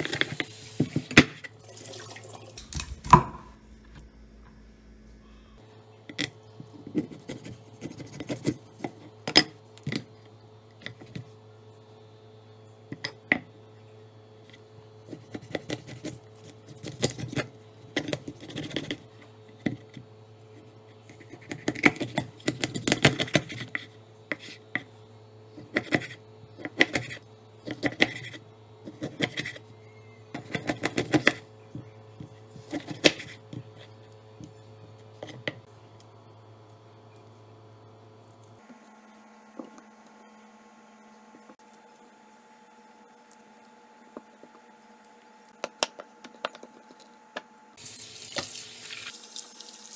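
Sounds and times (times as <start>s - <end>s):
steady low hum: 2.6s - 47.8s.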